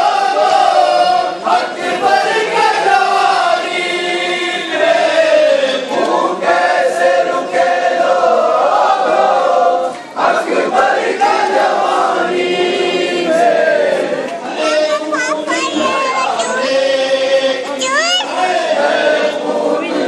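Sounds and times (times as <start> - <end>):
crowd of men chanting: 0.0 - 20.0.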